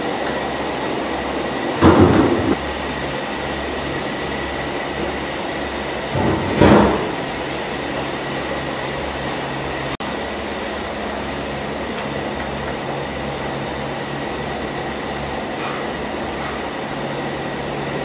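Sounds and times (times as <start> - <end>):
kitchen mechanical roar: 0.0 - 18.0.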